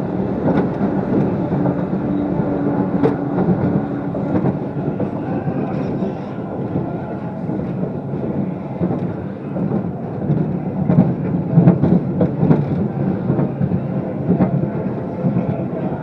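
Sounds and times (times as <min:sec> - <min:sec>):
ride car rumbling on track: 0:00.0 - 0:16.0.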